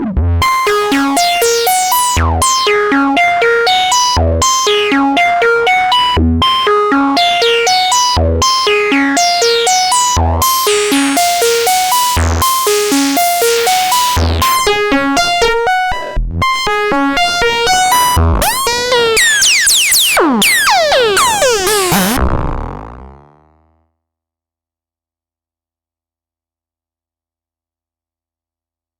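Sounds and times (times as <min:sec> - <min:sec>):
synth sequencer pattern: 0:00.4 - 0:23.8.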